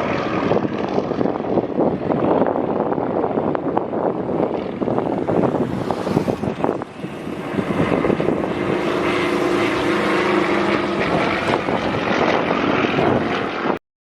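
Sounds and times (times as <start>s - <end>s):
aircraft engine drone: 0.0s - 13.8s
wind buffeting microphone: 0.0s - 13.8s.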